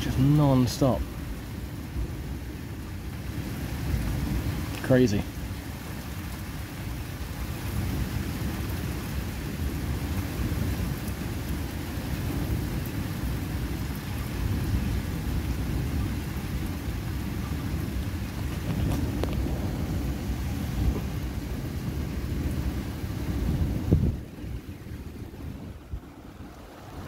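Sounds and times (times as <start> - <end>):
low rumble of thunder: 0.0 - 27.0
rain hissing: 0.0 - 27.0.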